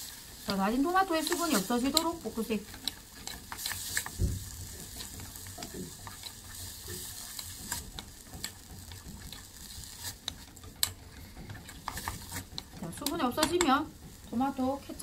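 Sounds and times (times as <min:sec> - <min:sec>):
vegetables sizzling in butter: 0:00.0 - 0:15.0
wooden spoon scraping a pot: 0:00.0 - 0:15.0.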